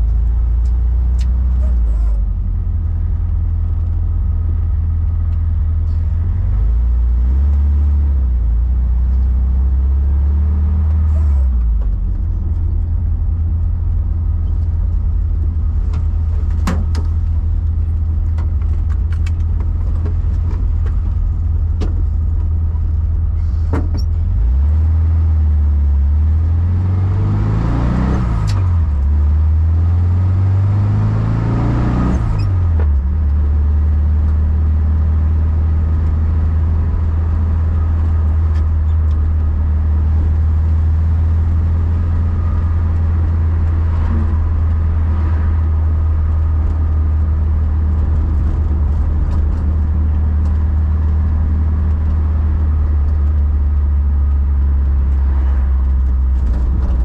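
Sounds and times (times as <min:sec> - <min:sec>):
car engine accelerating through gears: 0:00.0 - 0:57.0.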